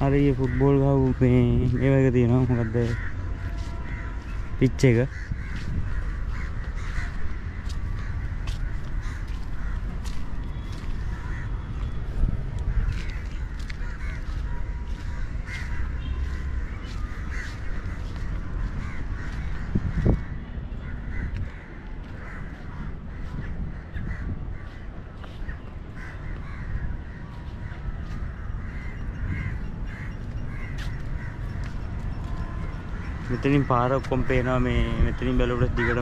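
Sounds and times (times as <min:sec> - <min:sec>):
wind rumble on microphone: 0:00.0 - 0:33.5, 0:34.1 - 0:36.0
crows cawing: 0:00.0 - 0:36.0.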